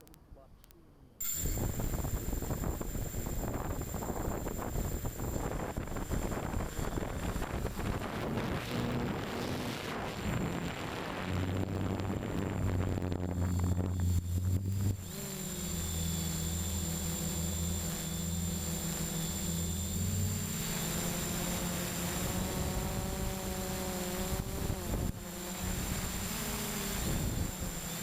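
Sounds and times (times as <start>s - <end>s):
drone motors and propellers droning: 1.2s - 28.0s
steady high whine: 1.2s - 28.0s.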